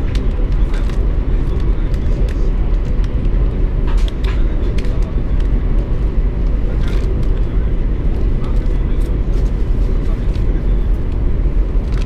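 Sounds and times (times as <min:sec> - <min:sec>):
train rumble inside carriage: 0:00.0 - 0:12.0.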